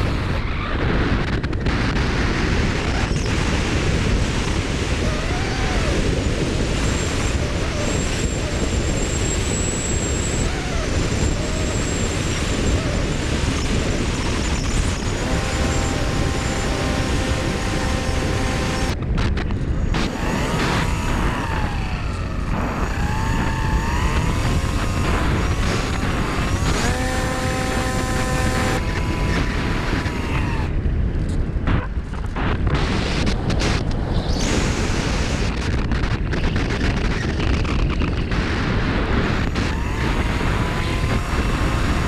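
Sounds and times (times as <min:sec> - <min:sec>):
electric motor and propeller whine: 0:00.0 - 0:42.0
wind buffeting microphone: 0:00.0 - 0:42.0.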